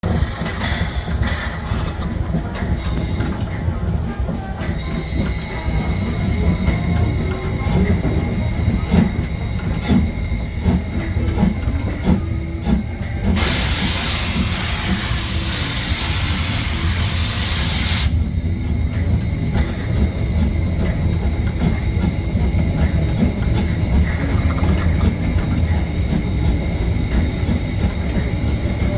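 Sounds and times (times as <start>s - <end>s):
steam hissing: 0.0s - 28.9s
steam locomotive exhaust beats: 0.0s - 28.9s.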